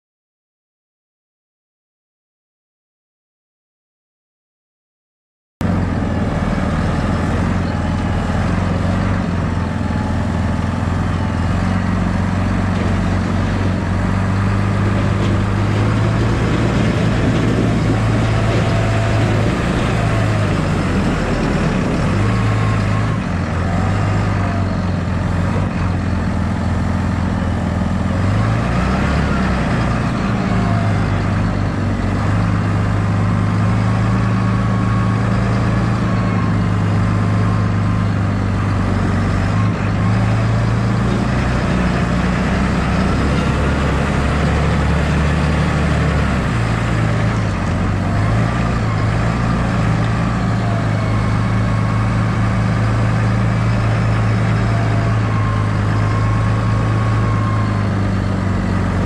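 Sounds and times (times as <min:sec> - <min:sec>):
tractor diesel engine running: 0:05.6 - 0:59.0.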